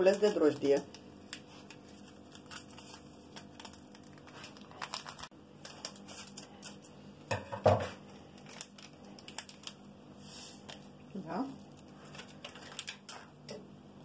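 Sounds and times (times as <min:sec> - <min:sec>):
foil sachet crinkling: 0:00.0 - 0:07.2, 0:08.0 - 0:13.5.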